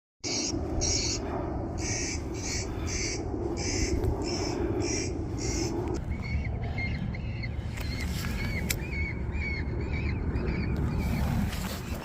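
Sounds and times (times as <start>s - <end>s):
bird calling: 0.2s - 12.0s
steady low hum: 0.2s - 12.0s.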